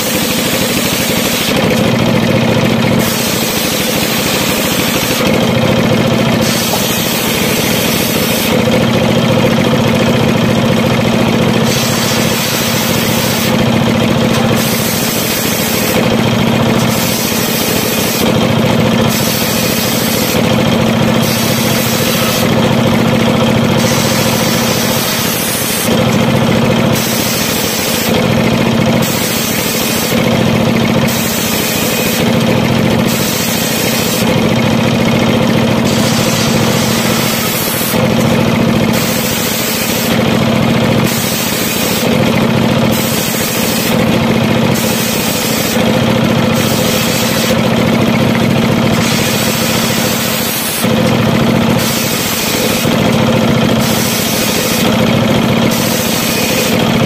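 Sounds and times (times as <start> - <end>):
circular saw ripping boards: 0.0 - 2.3, 2.9 - 8.7, 11.2 - 57.0
diesel engine under load: 0.0 - 57.0.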